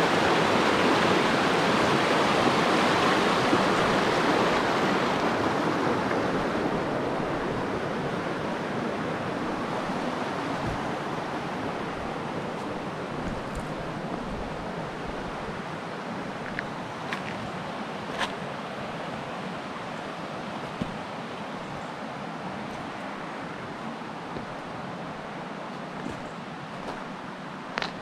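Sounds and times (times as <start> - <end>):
rushing river water: 0.0 - 28.0.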